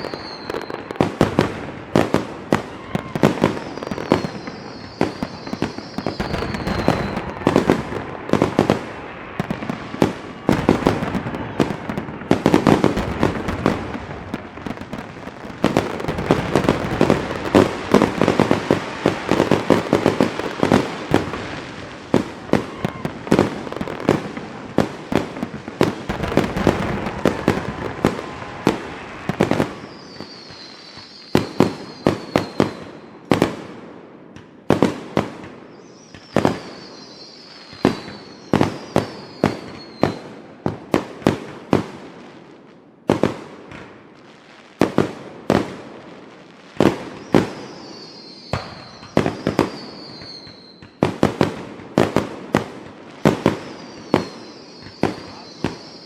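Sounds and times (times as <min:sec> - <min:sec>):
falling whistle of fireworks: 0:00.0 - 0:42.4, 0:46.8 - 0:56.0
fireworks crackling and banging: 0:00.0 - 0:56.0.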